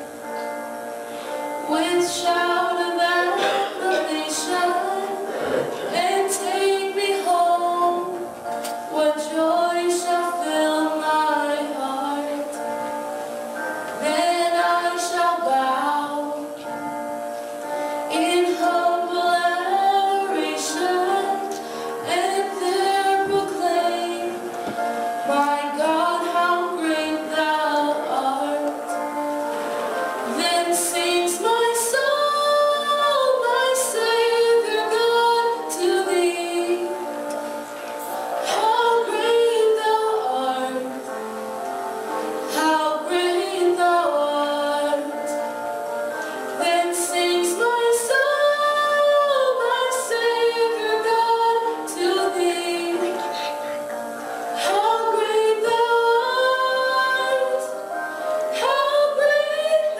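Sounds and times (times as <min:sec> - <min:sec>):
woman singing into a microphone: 0:01.5 - 0:29.2, 0:30.0 - 0:41.6, 0:42.3 - 0:45.7, 0:46.4 - 0:59.9.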